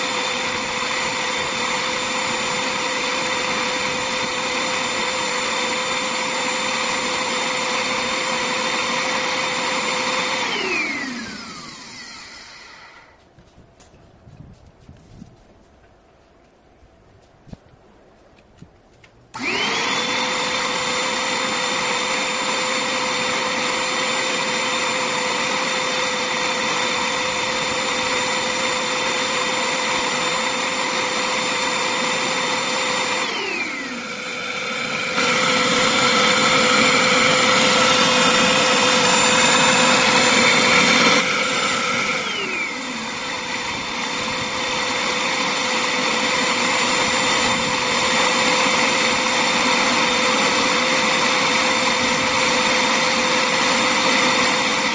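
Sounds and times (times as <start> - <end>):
electric suction motor whining: 0.0 - 13.2, 19.3 - 54.9.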